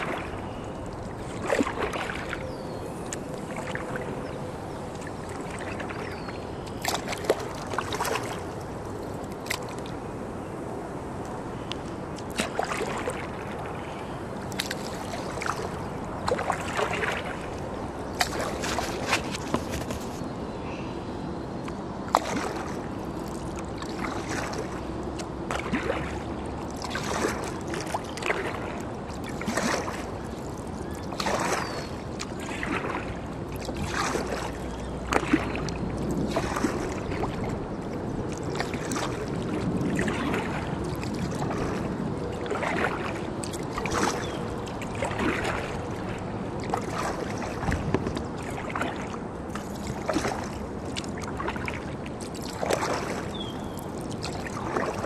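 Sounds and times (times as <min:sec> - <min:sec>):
kayak paddles splashing: 0:00.0 - 0:20.3, 0:22.0 - 0:55.0
water trickling off paddles: 0:00.0 - 0:20.3, 0:21.6 - 0:55.0.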